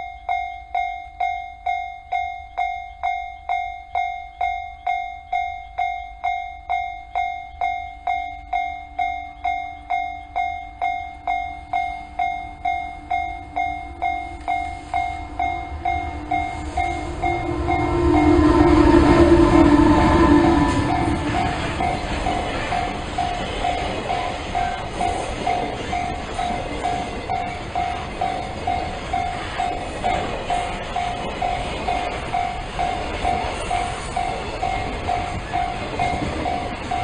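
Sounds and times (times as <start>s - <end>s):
level-crossing alarm bell dinging: 0.0s - 37.0s
train rumble and wheel noise: 0.0s - 37.0s.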